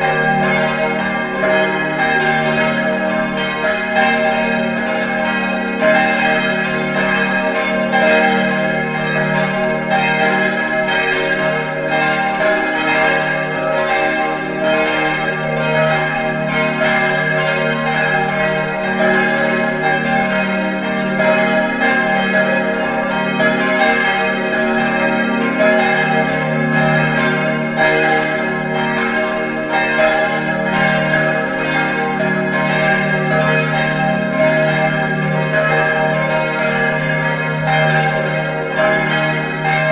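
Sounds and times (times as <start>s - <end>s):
church bells ringing together: 0.0s - 39.9s.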